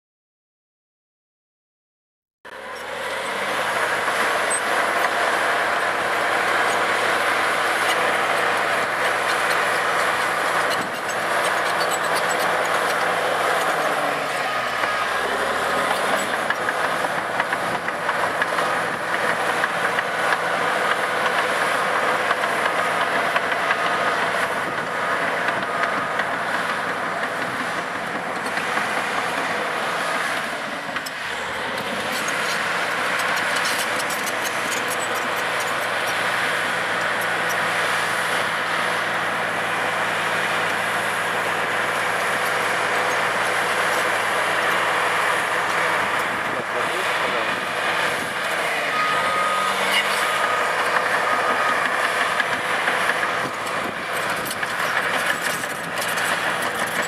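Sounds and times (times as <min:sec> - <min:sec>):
bulldozer diesel engine under load: 0:02.5 - 0:57.0.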